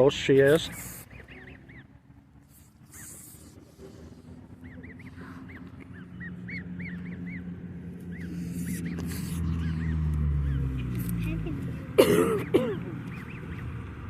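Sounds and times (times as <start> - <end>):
goslings peeping: 0.4 - 11.0, 13.0 - 13.9.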